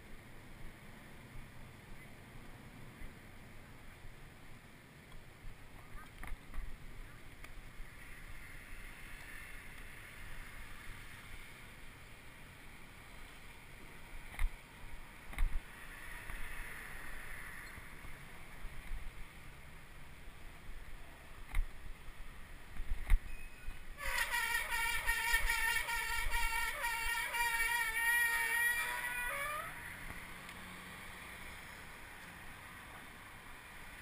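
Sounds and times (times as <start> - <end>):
bicycle tyres rolling on asphalt: 0.0 - 34.0.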